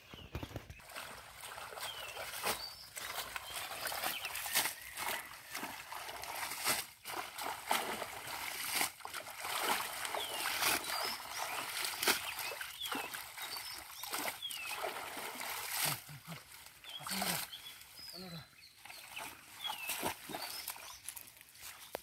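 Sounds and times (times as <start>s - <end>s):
water splashing and sloshing: 0.1s - 21.9s.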